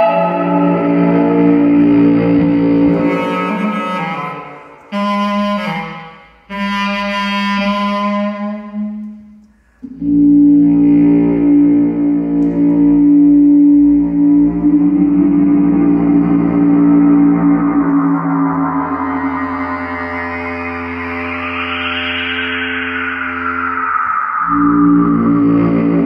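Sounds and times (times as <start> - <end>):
bass clarinet long low notes: 0.0 - 26.0.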